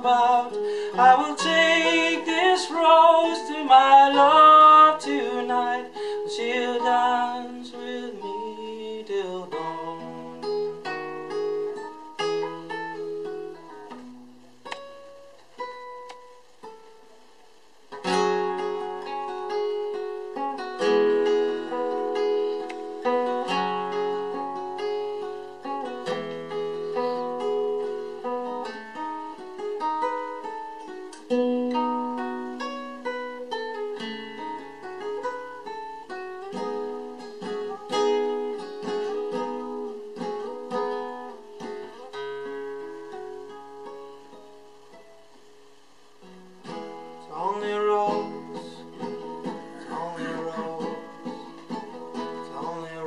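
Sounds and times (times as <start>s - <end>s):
classical guitar fingerpicked: 0.0s - 53.0s.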